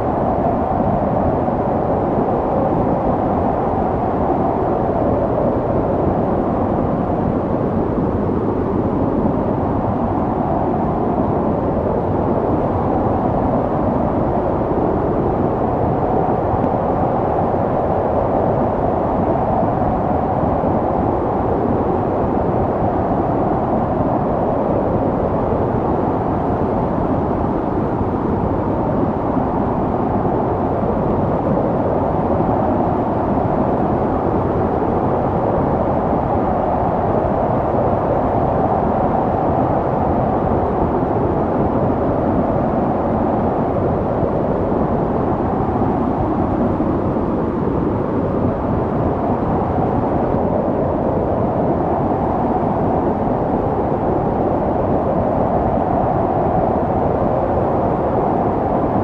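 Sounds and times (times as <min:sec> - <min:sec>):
snowstorm wind blowing: 0:00.0 - 0:59.0.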